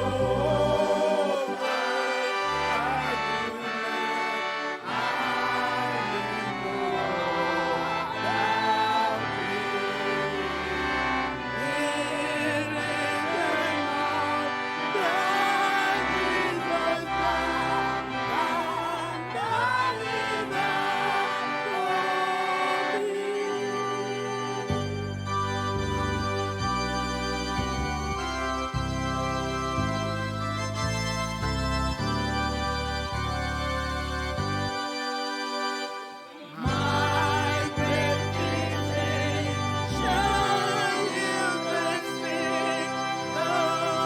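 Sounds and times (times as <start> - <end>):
church music: 0.0 - 44.0.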